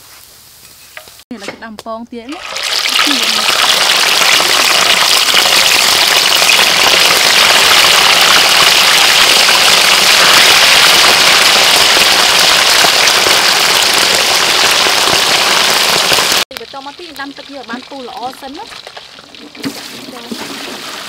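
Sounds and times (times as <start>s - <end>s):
oil bubbling and sizzling: 2.3s - 21.0s.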